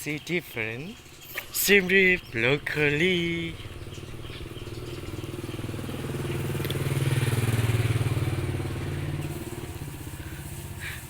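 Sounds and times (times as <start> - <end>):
motorbike passing by: 1.4 - 11.0.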